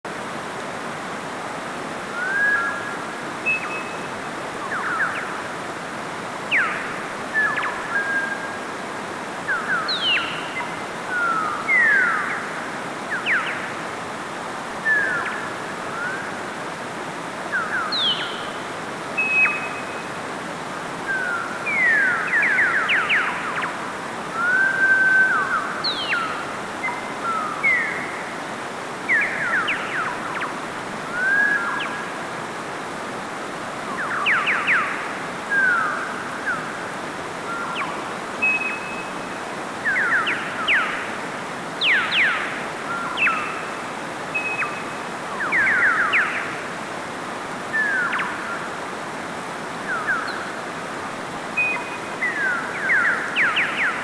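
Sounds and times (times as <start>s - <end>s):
stream rushing over rocks: 0.1s - 54.0s.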